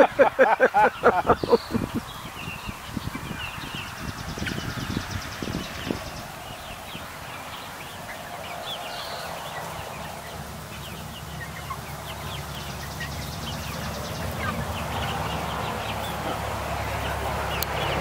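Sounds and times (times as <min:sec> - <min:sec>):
young chickens clucking and peeping: 0:00.0 - 0:18.0.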